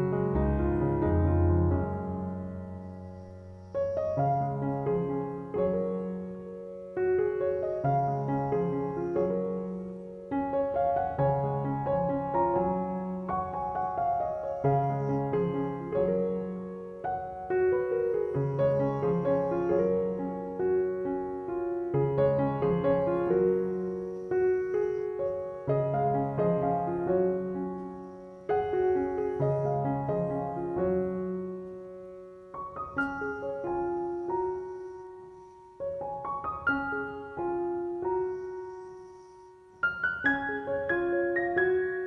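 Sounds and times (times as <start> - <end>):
soft solo piano music: 0.0 - 42.0.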